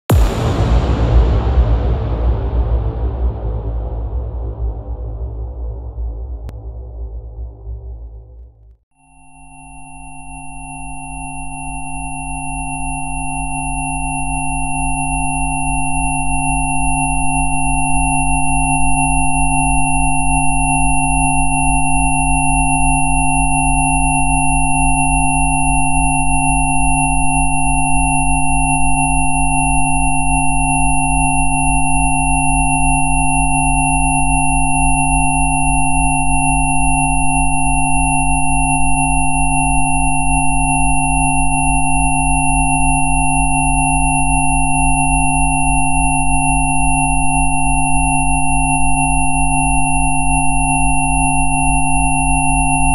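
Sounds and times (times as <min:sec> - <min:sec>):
layered sine-wave tones: 0:03.4 - 0:52.9.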